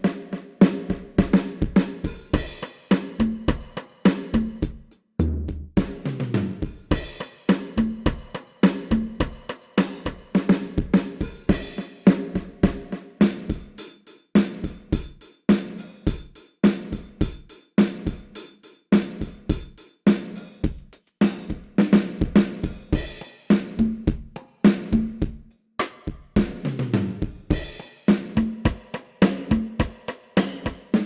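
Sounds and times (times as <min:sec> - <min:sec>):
sampled drum kit groove: 0:00.0 - 0:31.0.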